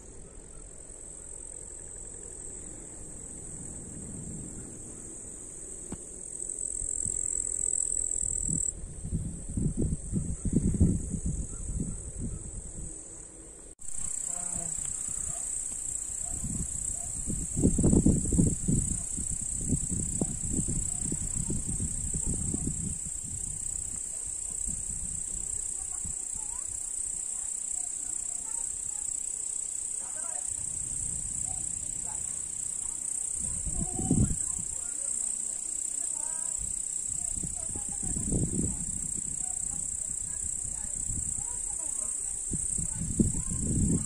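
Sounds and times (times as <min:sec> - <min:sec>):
crickets chirring: 0:00.1 - 0:44.0.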